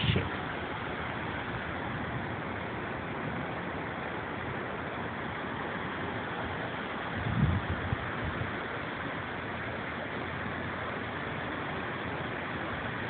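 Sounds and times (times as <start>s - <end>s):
steady rushing ambient noise: 0.0s - 13.0s.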